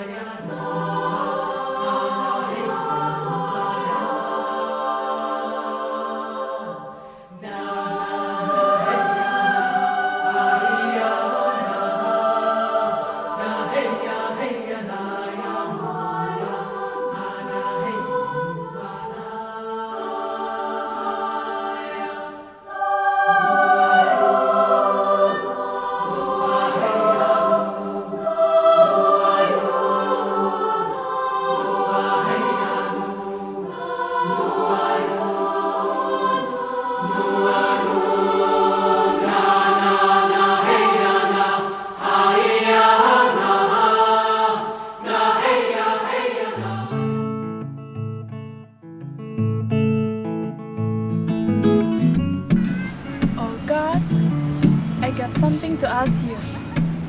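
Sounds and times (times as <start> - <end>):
choir singing sustained chords: 0.0 - 47.8, 53.0 - 57.0.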